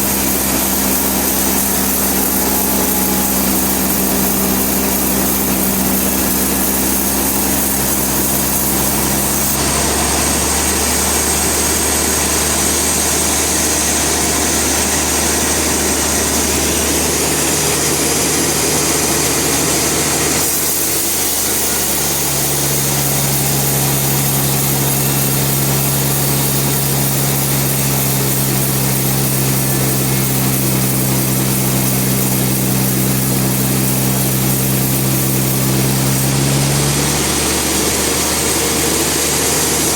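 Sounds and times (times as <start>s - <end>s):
hiss of saw cutting: 0.0s - 39.9s
sawmill engine drone: 0.0s - 39.9s.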